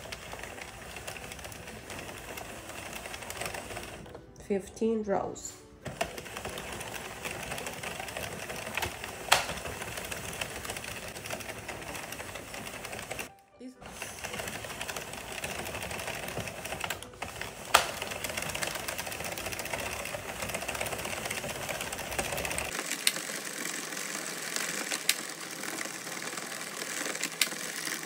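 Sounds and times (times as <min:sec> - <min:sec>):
knitting machine needles clattering: 0:00.0 - 0:28.0.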